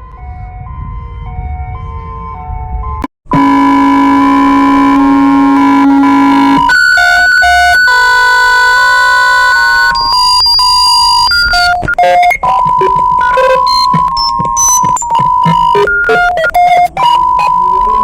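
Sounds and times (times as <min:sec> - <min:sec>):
electronic alarm beeps: 0:03.4 - 0:18.0.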